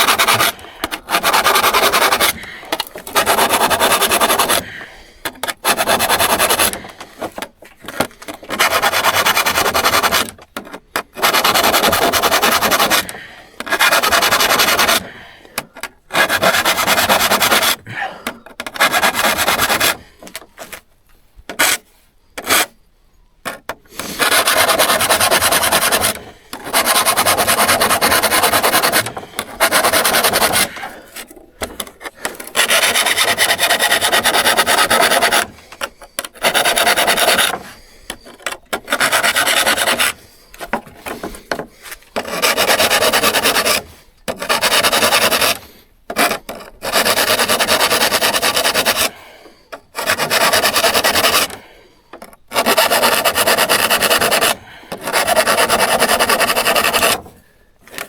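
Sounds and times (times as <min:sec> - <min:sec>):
abrasive tool scraping saw: 0:00.0 - 0:20.9, 0:21.5 - 0:22.8, 0:23.4 - 0:58.0.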